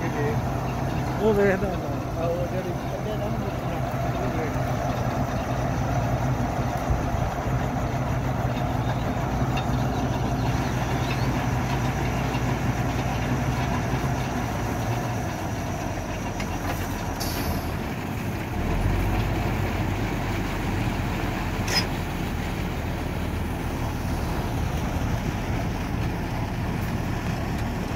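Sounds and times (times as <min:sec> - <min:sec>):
boring rig engine running: 0:00.0 - 0:27.9.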